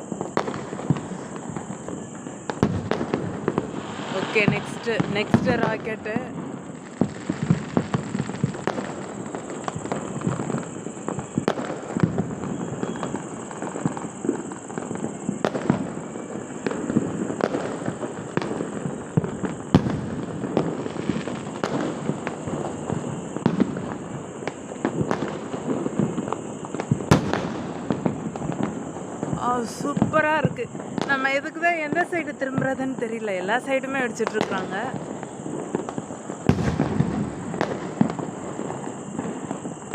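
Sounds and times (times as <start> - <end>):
firecracker bangs: 0.0 - 39.9
fireworks crackling: 0.0 - 39.9.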